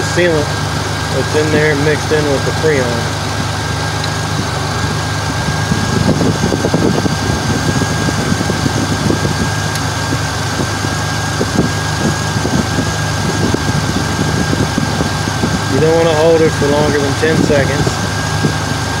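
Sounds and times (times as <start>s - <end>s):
high-pitched whine: 0.0s - 19.0s
truck engine idling: 0.0s - 19.0s.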